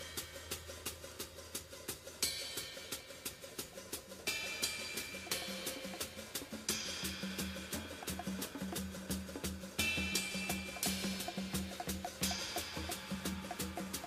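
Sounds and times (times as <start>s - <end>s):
cymbal crashes: 0.0s - 14.0s
hi-hat beat: 0.0s - 14.0s.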